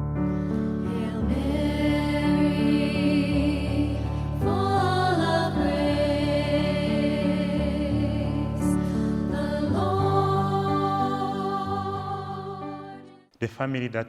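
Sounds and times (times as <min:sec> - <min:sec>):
wordless choral voices: 0:00.6 - 0:13.3.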